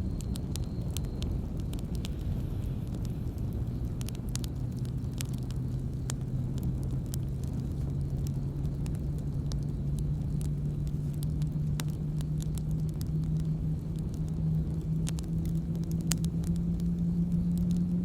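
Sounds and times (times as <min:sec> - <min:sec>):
campfire crackles and pops: 0:00.0 - 0:18.0
low steady rumble: 0:00.0 - 0:18.0.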